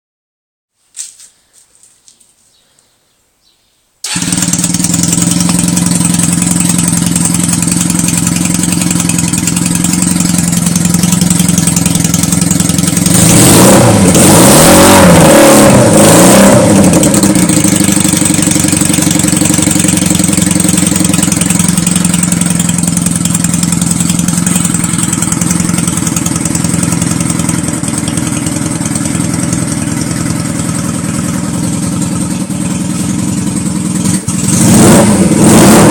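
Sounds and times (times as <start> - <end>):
motorcycle engine idling and revving: 4.0 - 35.9.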